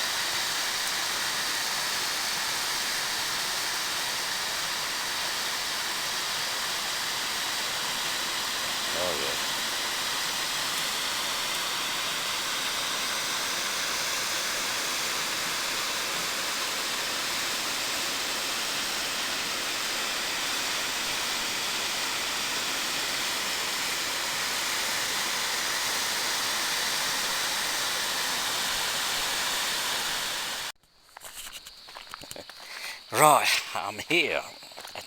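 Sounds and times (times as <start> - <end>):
flood water rushing down spillway: 0.0 - 30.7.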